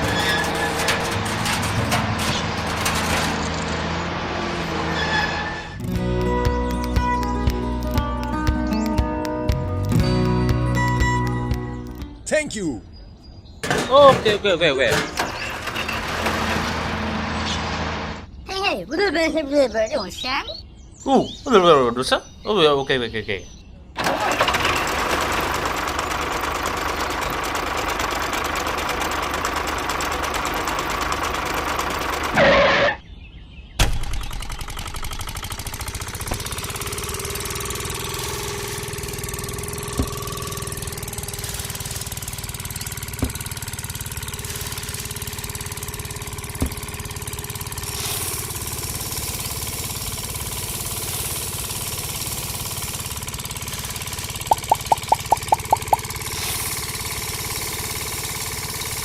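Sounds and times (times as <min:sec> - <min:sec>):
engine running: 0:00.0 - 0:12.3, 0:13.6 - 0:18.4, 0:24.0 - 0:33.0, 0:34.1 - 0:59.0.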